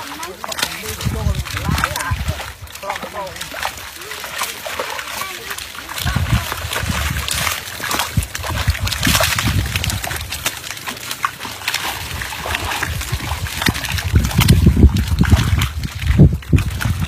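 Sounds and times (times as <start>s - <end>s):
muddy water sloshing and splashing: 0.0s - 17.0s.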